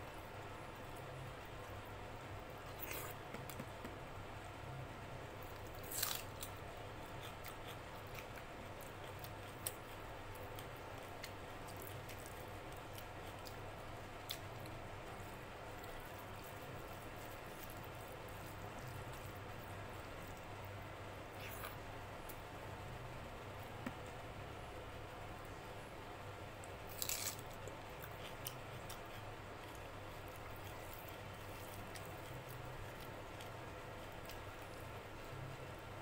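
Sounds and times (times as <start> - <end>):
soft chewing: 0.0 - 4.5, 5.3 - 24.3, 25.1 - 36.0
steady low hum: 0.0 - 36.0.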